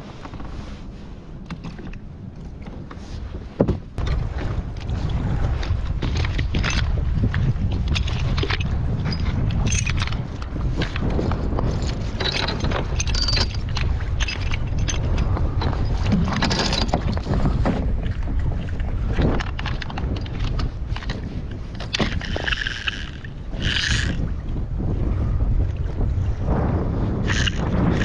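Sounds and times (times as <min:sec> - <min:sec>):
water sloshing against hull: 0:00.0 - 0:28.0
wind buffeting microphone: 0:00.0 - 0:28.0.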